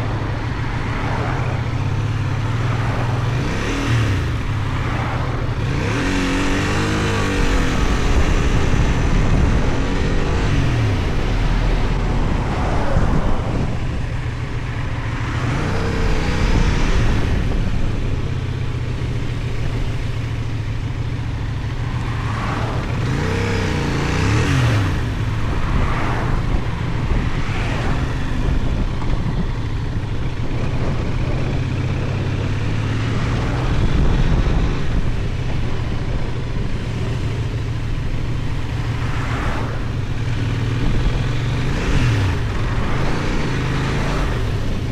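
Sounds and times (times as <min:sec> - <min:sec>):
motorcycle engine running: 0:00.0 - 0:44.9
wind and road noise: 0:00.0 - 0:44.9.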